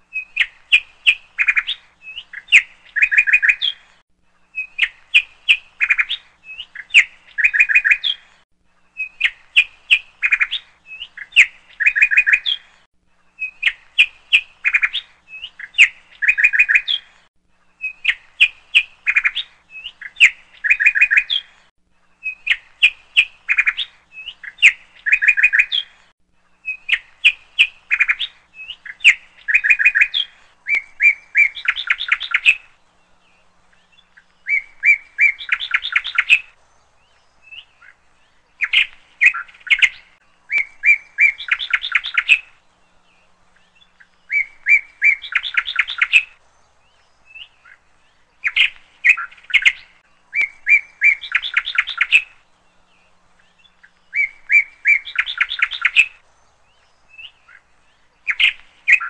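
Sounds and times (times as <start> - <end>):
small bird chirping: 0.0 - 59.0.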